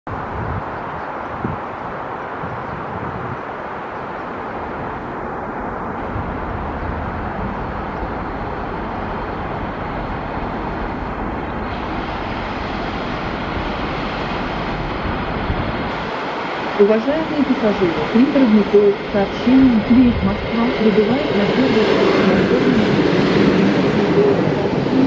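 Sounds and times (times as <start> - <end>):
train rushing rumble: 0.2 - 25.0.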